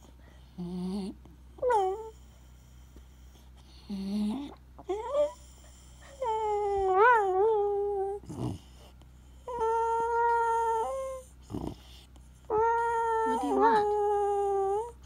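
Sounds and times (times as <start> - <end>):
dog whining: 0.6 - 2.4, 3.8 - 15.0.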